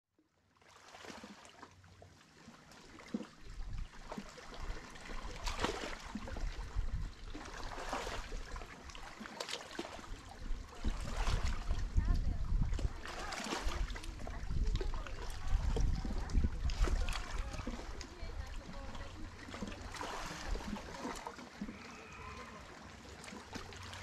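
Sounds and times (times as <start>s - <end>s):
small waves washing on shore: 0.6s - 24.0s.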